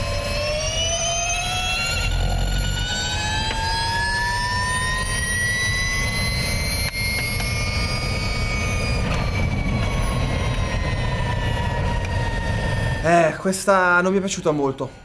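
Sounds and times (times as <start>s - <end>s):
electric motorbike whine: 0.0s - 13.6s
wind rumble: 0.0s - 15.0s.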